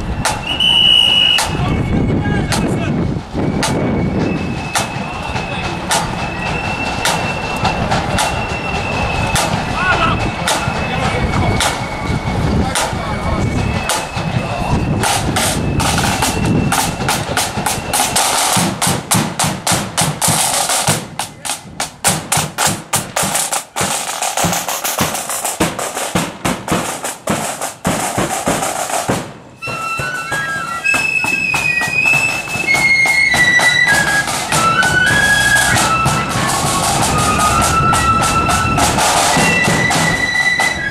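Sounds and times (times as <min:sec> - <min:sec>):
flutes playing a melody: 0:00.0 - 0:21.7, 0:29.5 - 0:40.9
side drums beating a march: 0:00.0 - 0:40.9.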